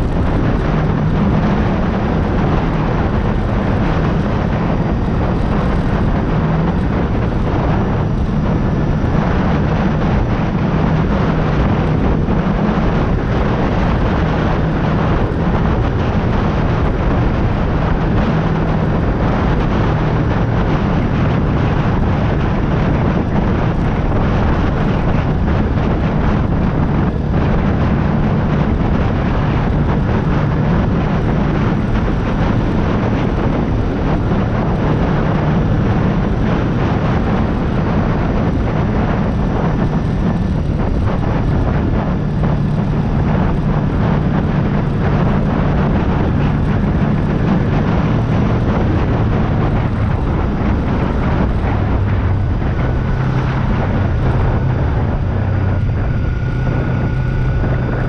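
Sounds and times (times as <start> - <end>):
constant rushing noise: 0.0 - 58.0
motorcycle engine running: 0.0 - 58.0.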